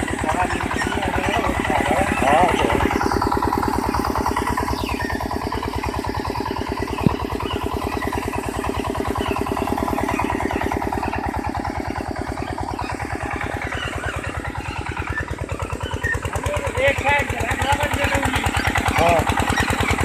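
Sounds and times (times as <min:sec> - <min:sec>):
cultivator engine chugging: 0:00.0 - 0:20.0.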